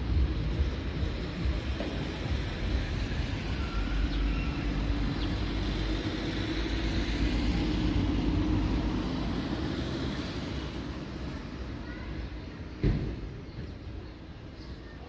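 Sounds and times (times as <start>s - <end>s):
faint engine hum: 0.0s - 15.0s
traffic rumble: 0.0s - 15.0s.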